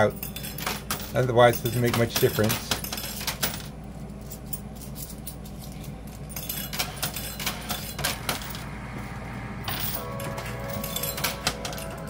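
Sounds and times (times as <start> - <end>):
coins clinking and sliding: 0.0 - 8.8, 9.6 - 12.0
machine low hum: 0.0 - 12.0.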